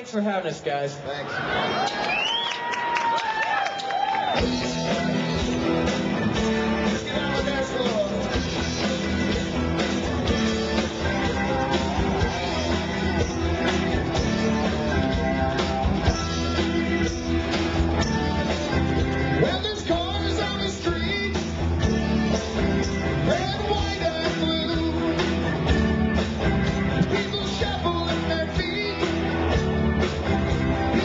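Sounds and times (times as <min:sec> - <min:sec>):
live rock band playing: 0:04.2 - 0:31.0.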